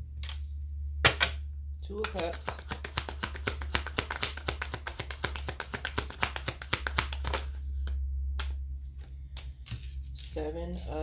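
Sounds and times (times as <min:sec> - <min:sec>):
cards shuffled by hand: 0:02.0 - 0:10.8.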